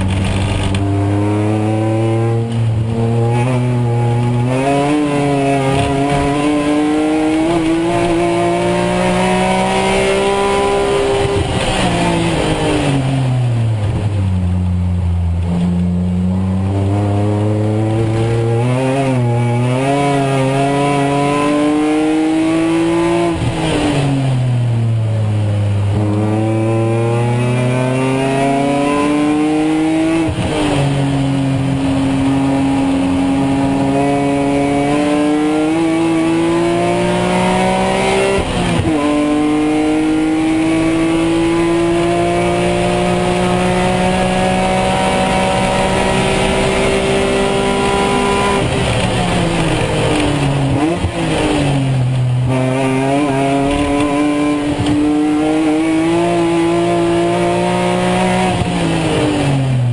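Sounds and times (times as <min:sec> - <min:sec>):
race car engine revving: 0:00.0 - 0:14.7, 0:15.3 - 0:59.9.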